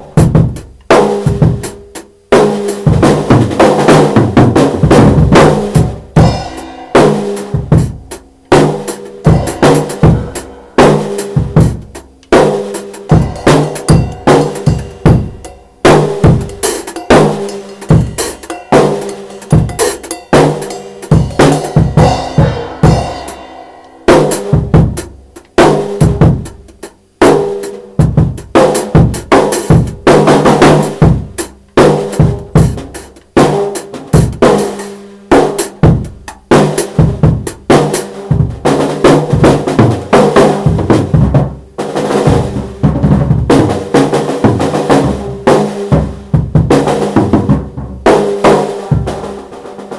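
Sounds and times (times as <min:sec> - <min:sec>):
drums played freely: 0:00.0 - 0:49.9.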